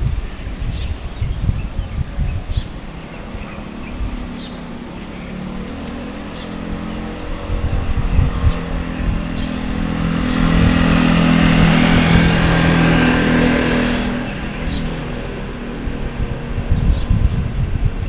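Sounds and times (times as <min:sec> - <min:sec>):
vehicle engine passing by: 0:02.1 - 0:18.0.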